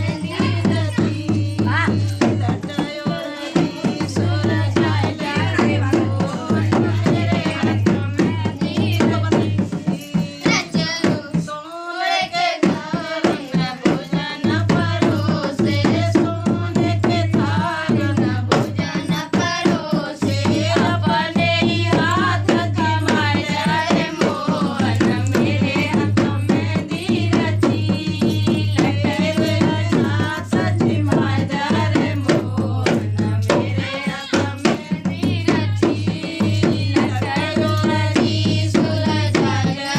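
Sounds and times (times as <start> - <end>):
folk singing: 0.0 - 39.9
hand drum rhythm: 0.0 - 39.9.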